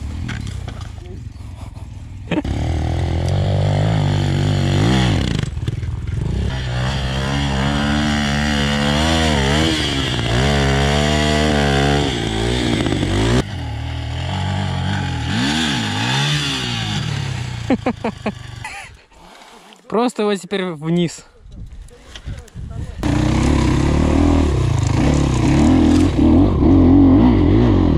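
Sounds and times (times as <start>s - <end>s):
dirt bike engines revving: 0.0s - 19.8s, 23.0s - 27.9s.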